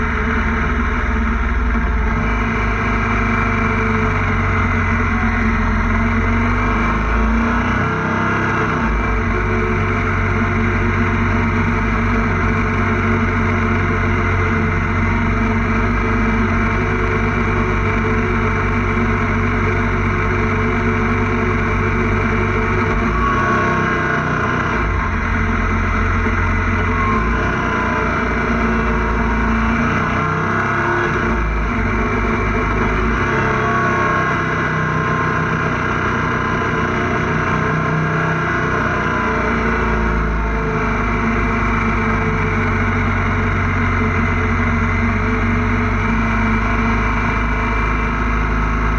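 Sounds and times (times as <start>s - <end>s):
motorcycle engine running: 0.0s - 48.9s
road noise: 0.0s - 48.9s.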